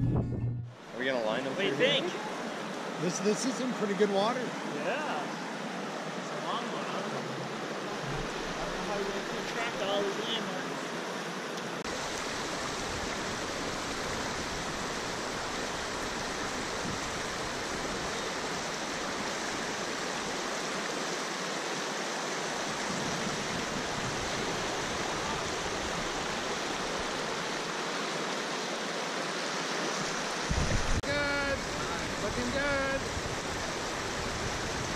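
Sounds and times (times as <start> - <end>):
water rushing over rocks: 0.8 - 34.9.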